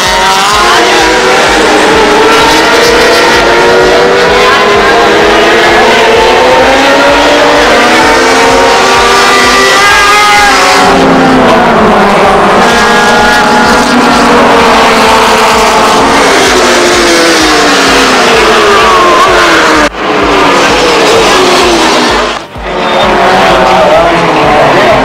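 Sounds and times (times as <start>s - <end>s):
racing engines at high revs: 0.0s - 25.0s.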